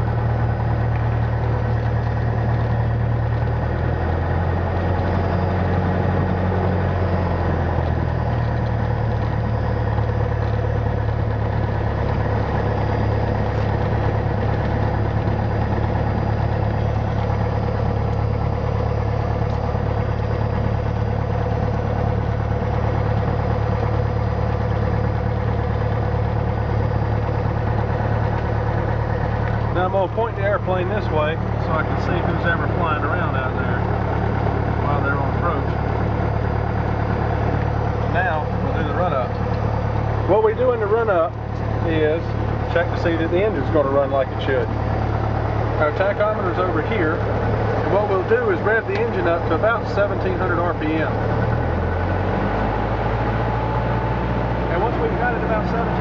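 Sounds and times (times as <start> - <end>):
light aircraft engine running: 0.0 - 56.0.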